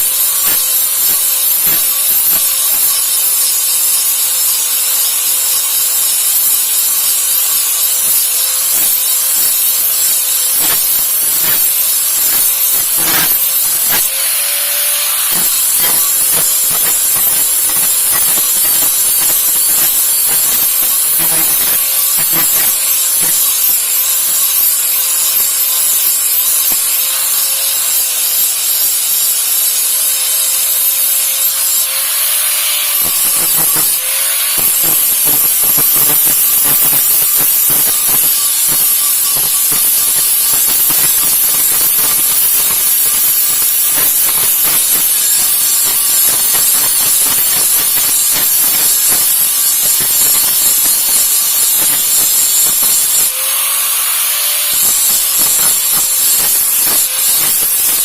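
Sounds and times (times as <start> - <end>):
power tool grinding steel blade: 0.0 - 58.0.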